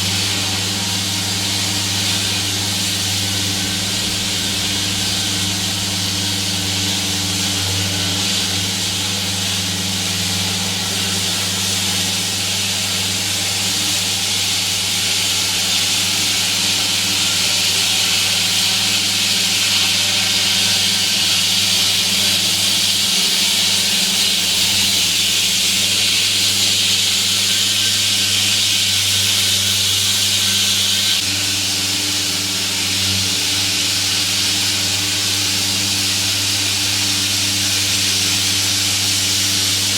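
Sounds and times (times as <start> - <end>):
blade grinding through pavement: 0.0 - 39.9
saw engine humming: 0.0 - 39.9.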